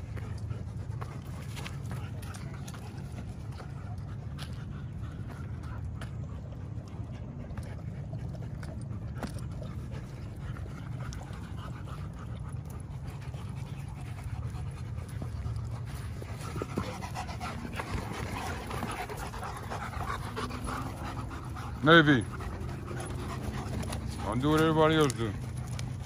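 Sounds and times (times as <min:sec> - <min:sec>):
dogs panting: 0:00.0 - 0:26.0
steady low rumble: 0:00.0 - 0:26.0.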